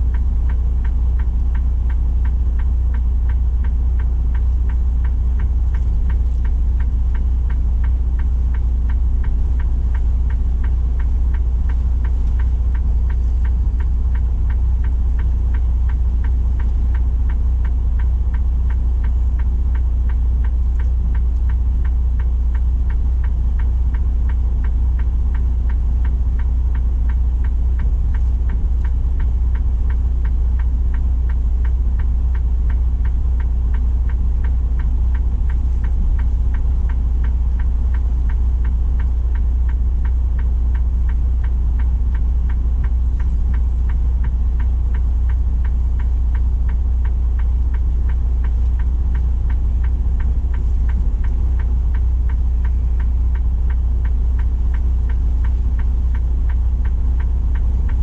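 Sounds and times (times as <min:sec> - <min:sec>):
diesel engine idling: 0:00.0 - 0:58.0
fast regular ticking: 0:00.0 - 0:58.0.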